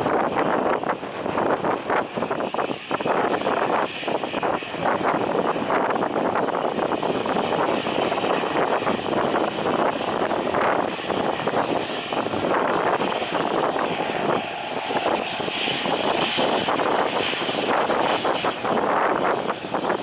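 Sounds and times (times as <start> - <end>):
airliner engines passing: 0.0 - 20.0.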